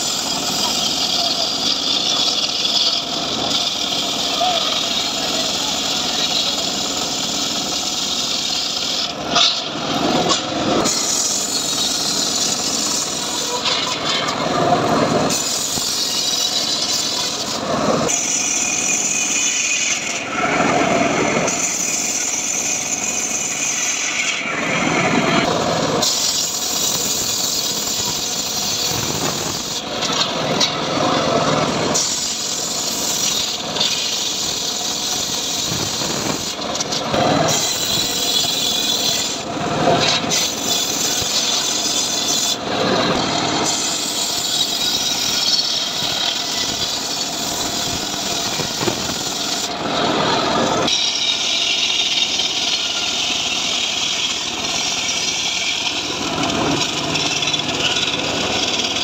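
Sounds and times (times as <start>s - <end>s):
table saw cutting log: 0.0s - 59.0s.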